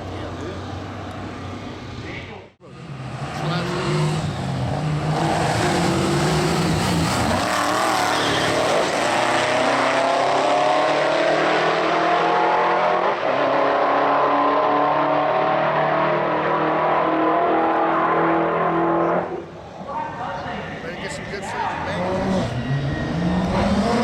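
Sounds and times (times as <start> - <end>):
race car engine at full throttle: 0.0 - 19.8, 20.7 - 24.0.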